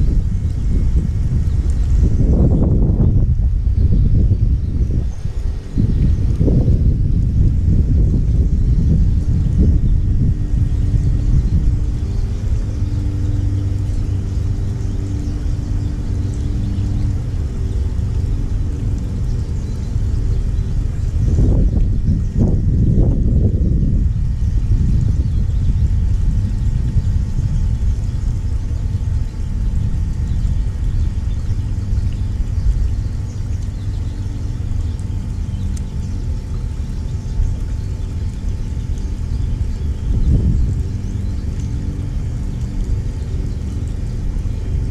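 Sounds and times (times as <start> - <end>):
loud steady low rumble: 0.0 - 44.9
small birds chirping: 0.0 - 44.9
vehicle engine hum: 0.0 - 44.9.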